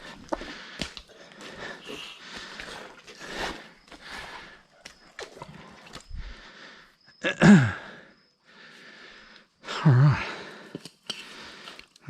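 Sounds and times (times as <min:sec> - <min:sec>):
man breathing hard: 0:00.0 - 0:04.7, 0:06.0 - 0:11.9.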